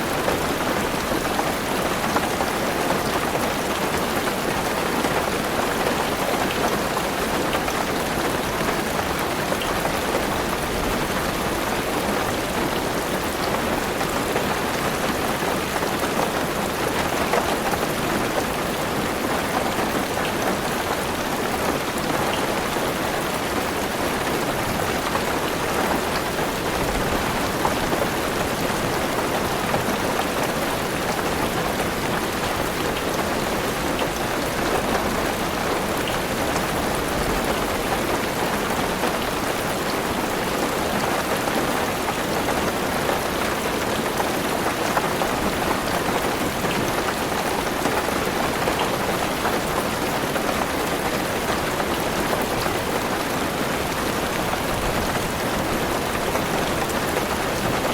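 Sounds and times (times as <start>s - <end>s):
heavy rain on a car roof: 0.0s - 57.9s.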